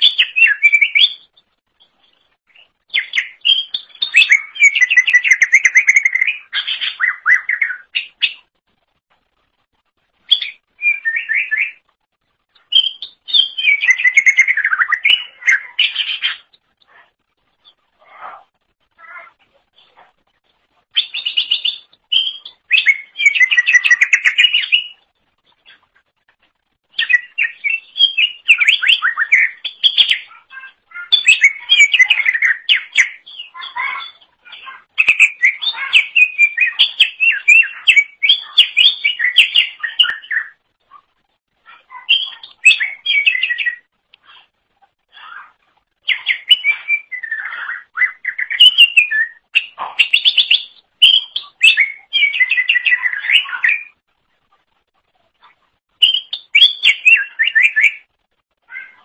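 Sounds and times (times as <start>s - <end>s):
bird chattering and twittering: 0.0s - 8.6s, 10.2s - 11.9s, 12.5s - 20.2s, 20.8s - 26.1s, 26.9s - 54.0s, 55.4s - 59.0s.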